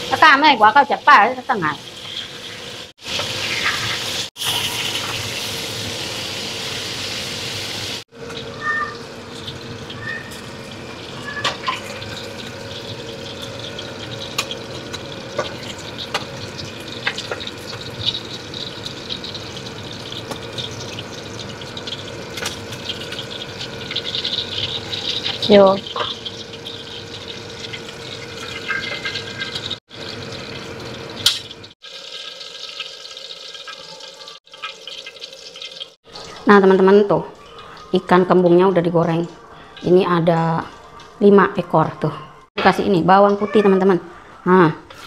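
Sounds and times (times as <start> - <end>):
fish sizzling in hot oil: 0.0 - 36.4.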